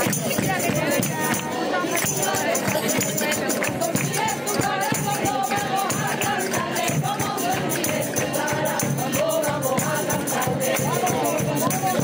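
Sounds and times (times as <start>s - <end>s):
group of people singing: 0.0s - 12.0s
tambourine jingles: 0.0s - 12.0s.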